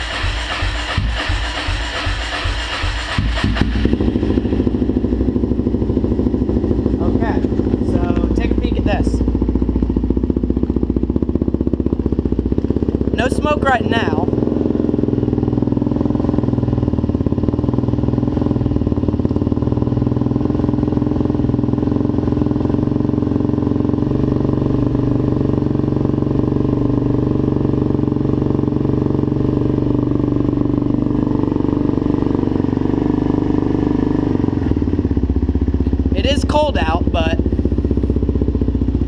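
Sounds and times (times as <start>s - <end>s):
quad bike engine idling: 0.0s - 39.0s.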